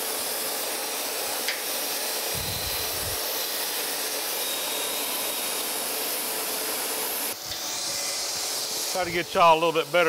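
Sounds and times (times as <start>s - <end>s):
grinding wheel hissing on steel: 0.0s - 10.0s.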